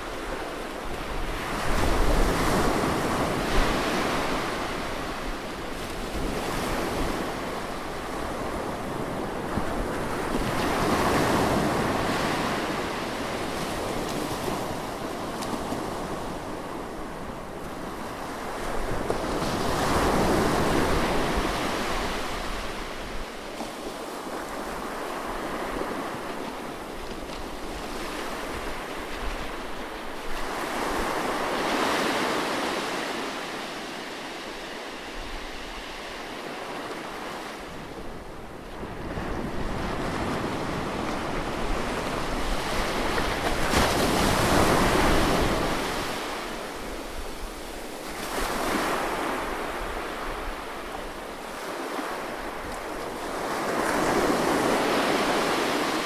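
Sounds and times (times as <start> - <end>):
sea waves washing on shore: 0.0 - 56.0.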